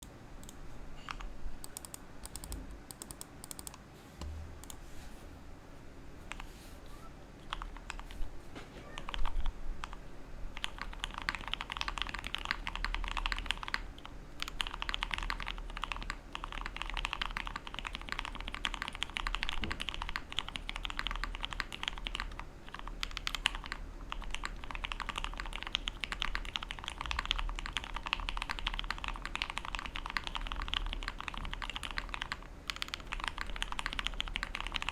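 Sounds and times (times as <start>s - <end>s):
typing on mechanical keyboard: 0.4s - 3.8s, 7.4s - 8.2s, 8.9s - 34.9s.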